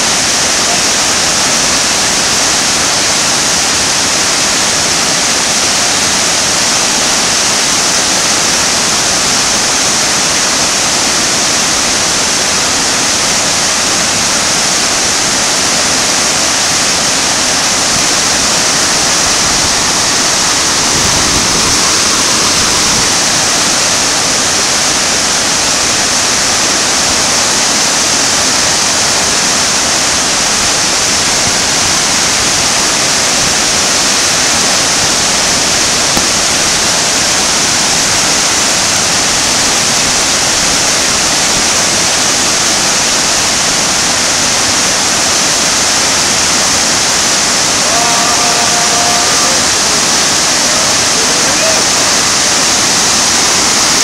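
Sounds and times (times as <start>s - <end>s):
whitewater rapids rushing: 0.0s - 54.0s.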